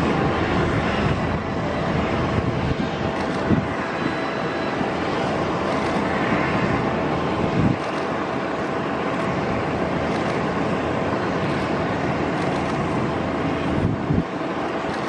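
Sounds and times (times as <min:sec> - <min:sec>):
faint engine whine: 0:00.0 - 0:15.0
jet engines rushing: 0:00.0 - 0:15.0.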